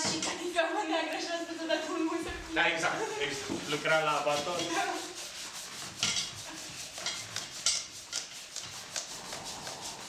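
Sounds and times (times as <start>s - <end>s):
scratchy rubbing on cloth: 0.0s - 10.0s.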